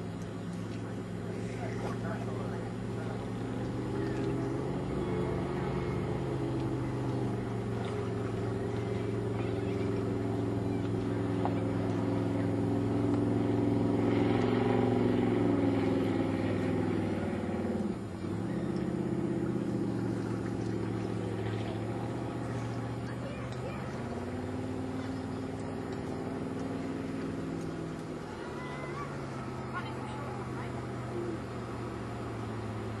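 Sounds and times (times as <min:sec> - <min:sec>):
boat engine passing: 0:00.0 - 0:33.0.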